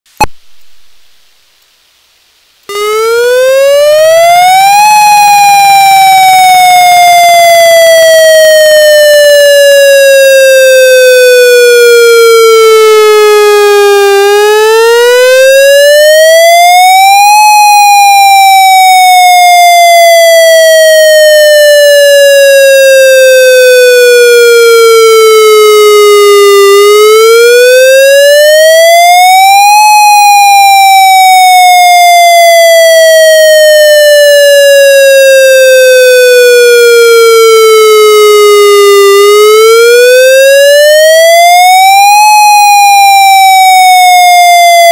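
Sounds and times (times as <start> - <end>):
siren wailing: 2.7 - 44.9.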